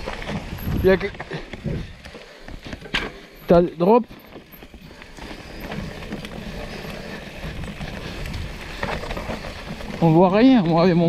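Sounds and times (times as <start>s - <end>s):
bike tyres rolling on dirt: 0.0s - 11.0s.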